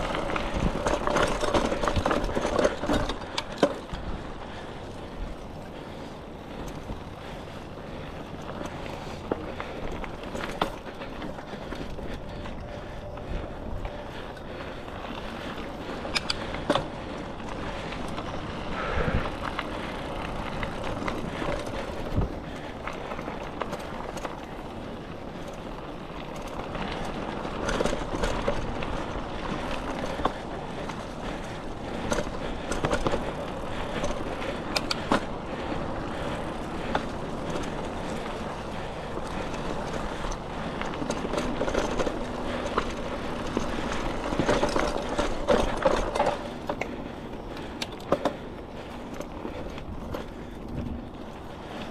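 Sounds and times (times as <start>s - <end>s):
bike rattling over bumps: 0.0s - 51.9s
bike tyres on dirt trail: 0.0s - 51.9s.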